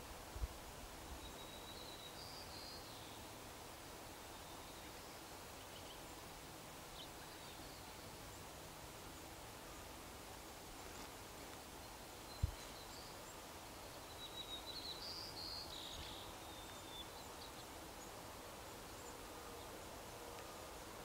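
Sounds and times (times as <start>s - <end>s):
outdoor riverbank ambience: 0.0s - 21.0s.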